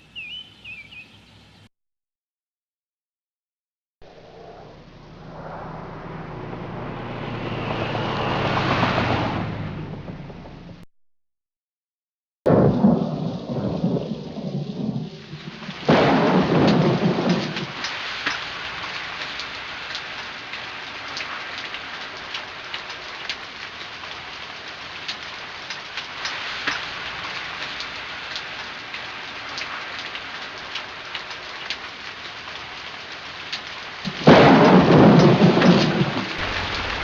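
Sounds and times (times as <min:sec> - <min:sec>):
thunder crack rumbling: 0:04.4 - 0:10.8, 0:12.5 - 0:37.0
steady rain falling: 0:04.8 - 0:10.8, 0:12.5 - 0:37.0.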